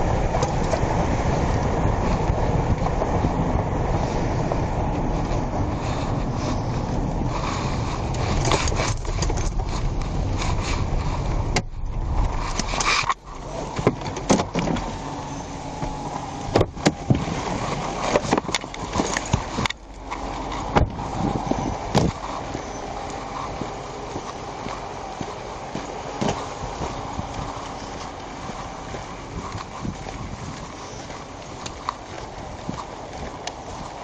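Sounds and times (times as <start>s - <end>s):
vehicle road noise: 0.0s - 34.0s.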